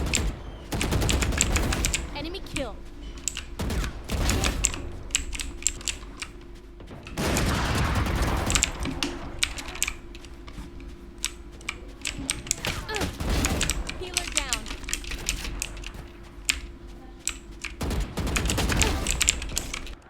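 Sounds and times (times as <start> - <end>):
mechanical keyboard keys clicking: 0.0 - 6.4, 8.1 - 20.0
video game gunfire: 0.0 - 20.0.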